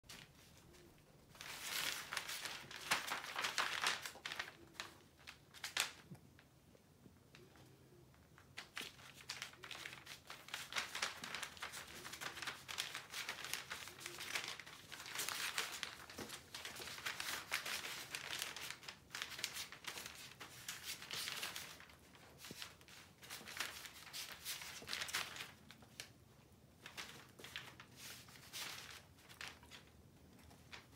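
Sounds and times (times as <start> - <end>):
paper crinkling under paws: 0.1 - 6.5, 7.3 - 26.2, 26.8 - 30.9.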